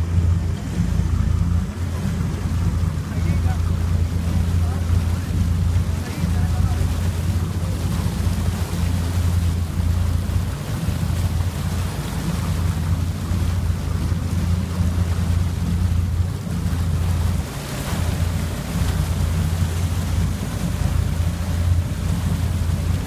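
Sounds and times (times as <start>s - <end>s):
boat engine droning: 0.0s - 23.0s
rush of boat wake: 0.0s - 23.0s.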